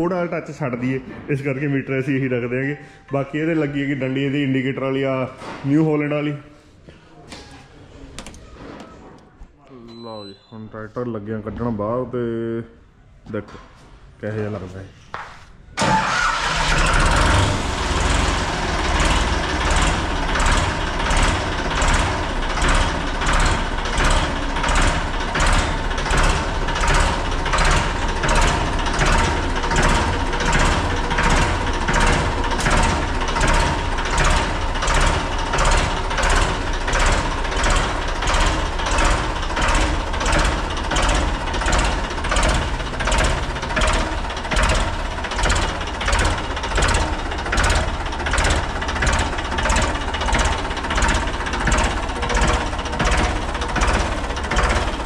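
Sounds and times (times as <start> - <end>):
tractor diesel engine running: 0.0 - 6.2, 15.8 - 55.0.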